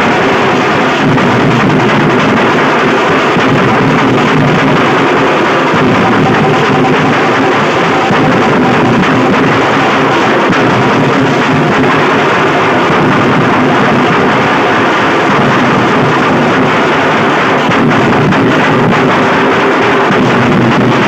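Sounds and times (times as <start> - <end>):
dhol drums playing: 0.3 - 21.0.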